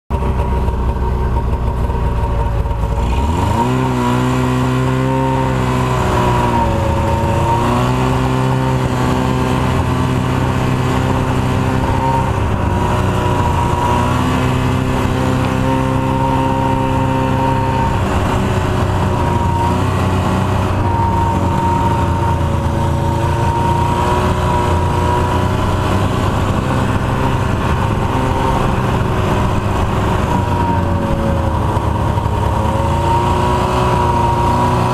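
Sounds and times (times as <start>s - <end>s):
snowmobile engine revving: 0.2s - 34.9s.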